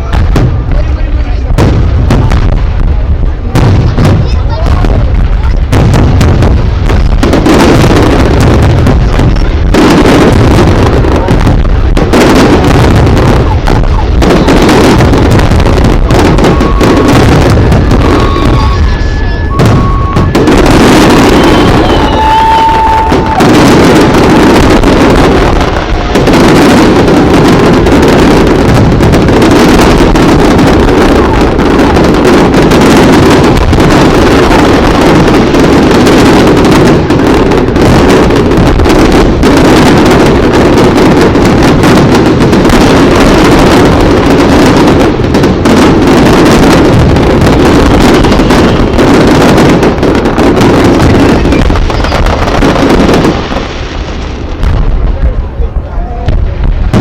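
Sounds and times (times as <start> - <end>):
crackling fireworks: 0.0 - 57.0
fireworks barrage: 0.0 - 57.0.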